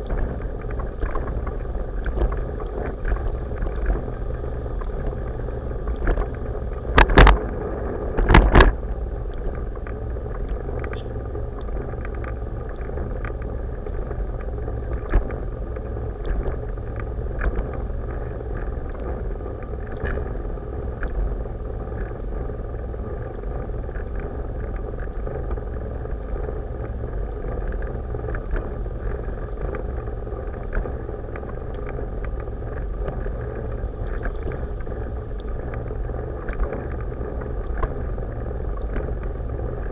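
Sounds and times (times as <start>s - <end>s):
small clicks over joints: 0.0s - 39.9s
wheels rolling over pavement: 0.0s - 39.9s.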